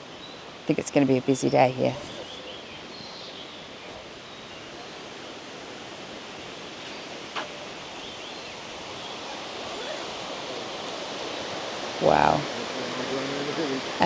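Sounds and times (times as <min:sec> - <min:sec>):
distant waterfall roaring: 0:00.0 - 0:14.0.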